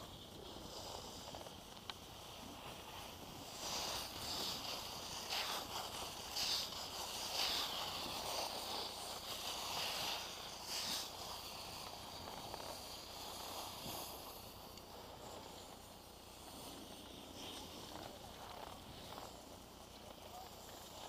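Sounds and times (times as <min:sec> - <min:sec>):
edges scraping over snow: 0:00.0 - 0:21.0.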